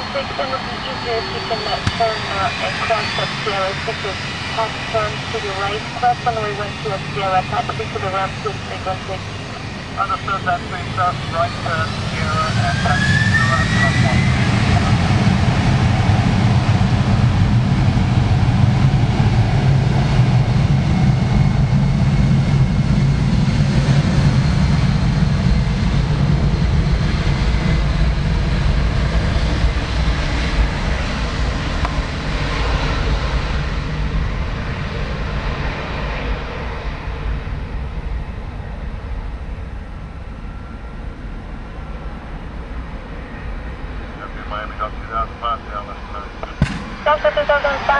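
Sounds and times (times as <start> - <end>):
jet airliner engine noise: 0.0 - 47.9.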